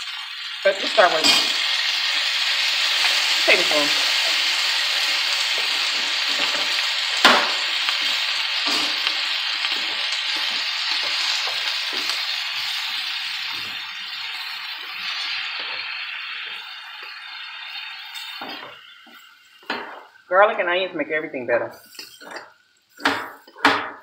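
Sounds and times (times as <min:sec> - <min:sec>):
food sizzling in a wok: 0:00.0 - 0:24.0.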